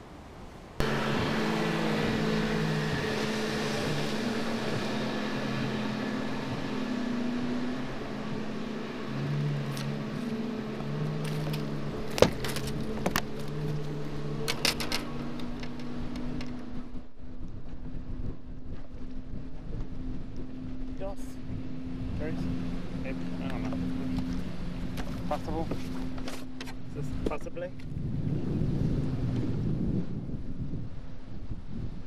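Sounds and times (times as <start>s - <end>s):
electric trolling motor humming: 0.8s - 31.6s.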